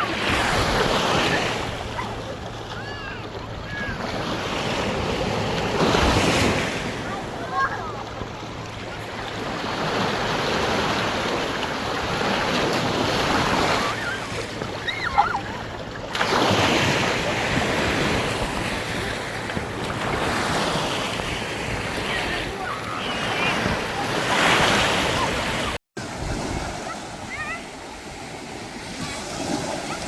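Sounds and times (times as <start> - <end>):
sea waves breaking on beach: 0.0 - 30.0.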